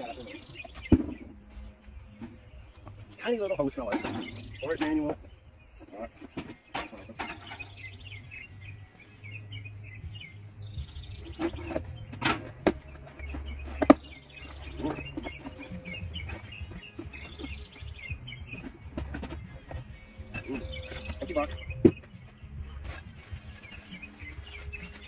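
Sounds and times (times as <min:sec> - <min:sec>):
handling knocks and rustles: 0:00.0 - 0:07.9, 0:11.2 - 0:25.0
songbirds chirping: 0:00.0 - 0:25.0.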